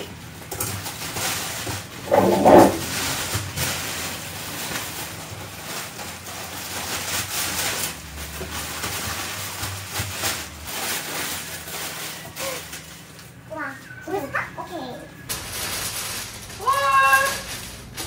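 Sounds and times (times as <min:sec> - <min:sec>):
newspaper crackling and rustling: 0:00.1 - 0:13.5, 0:15.3 - 0:18.0.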